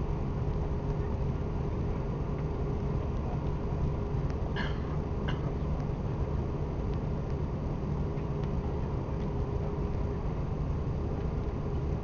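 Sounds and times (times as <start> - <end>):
aircraft engines idling: 0.0 - 12.0.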